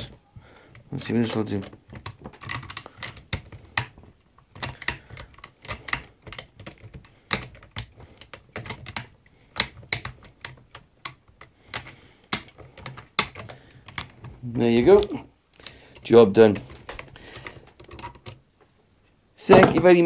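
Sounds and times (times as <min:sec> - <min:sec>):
lock pick metallic clicks: 0:01.5 - 0:18.4.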